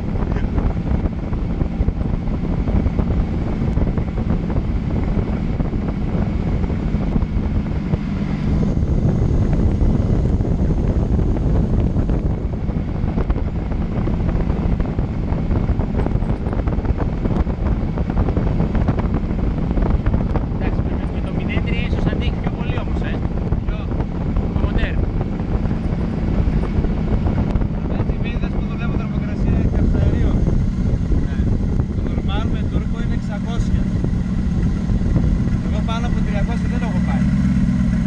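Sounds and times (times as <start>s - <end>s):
buggy engine running: 0.0s - 38.0s
tyres on gravel track: 0.0s - 38.0s
wind buffeting microphone: 0.0s - 38.0s.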